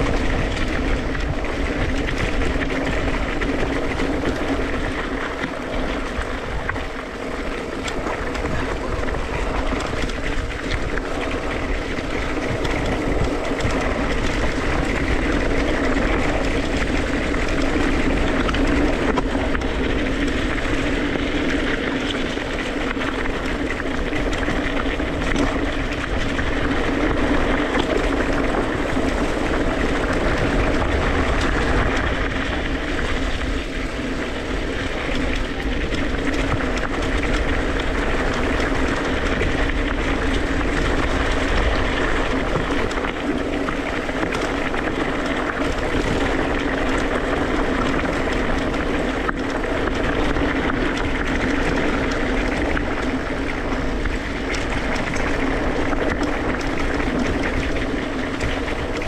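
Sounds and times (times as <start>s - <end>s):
bike tyre rumble and rattle: 0.0s - 59.0s
wind on microphone: 0.0s - 59.0s.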